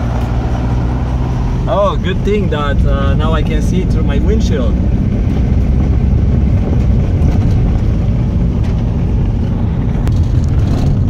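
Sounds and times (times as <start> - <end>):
tyres rumbling on gravel: 0.0 - 11.0
vehicle engine rumble: 0.0 - 11.0.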